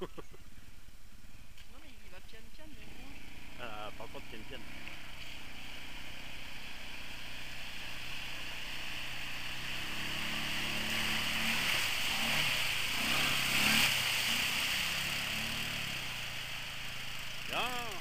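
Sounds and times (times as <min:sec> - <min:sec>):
quad bike engine revving: 0:02.8 - 0:18.0.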